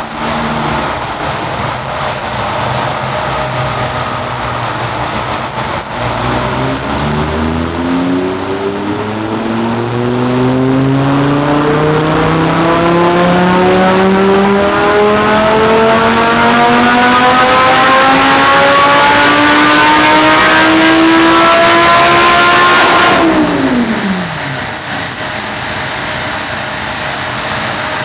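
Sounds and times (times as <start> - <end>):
car engine revving on dyno: 0.0 - 28.0.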